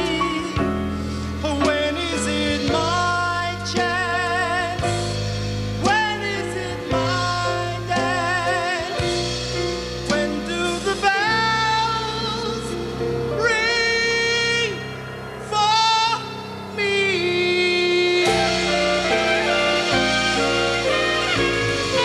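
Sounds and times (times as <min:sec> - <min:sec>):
jazz band with bass and drums: 0:00.0 - 0:15.4, 0:16.9 - 0:22.0
long vibrato notes: 0:00.0 - 0:22.0.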